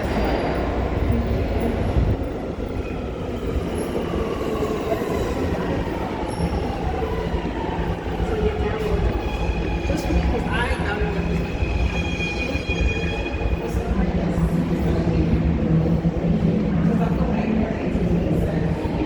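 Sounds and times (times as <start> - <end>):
subway train rumbling on rails: 0.0 - 19.0.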